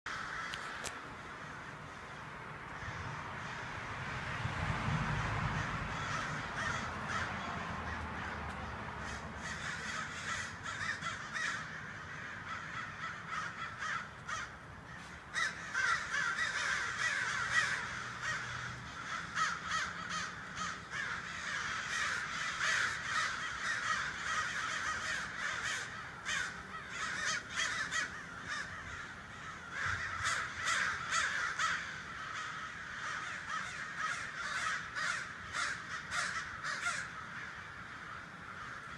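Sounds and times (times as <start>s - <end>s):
flock of birds calling: 0.1s - 4.4s, 5.2s - 38.9s.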